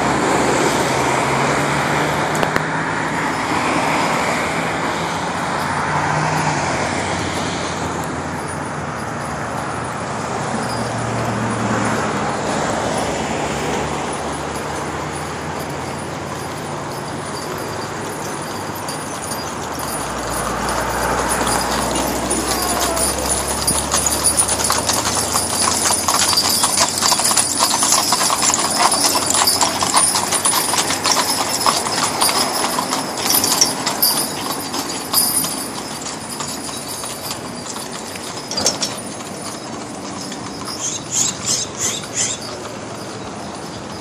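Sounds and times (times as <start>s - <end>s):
horses' hooves on asphalt: 0.0s - 44.0s.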